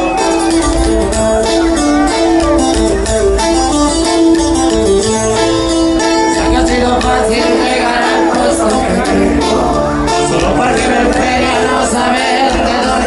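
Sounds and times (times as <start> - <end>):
band music with plucked guitars: 0.0 - 13.0.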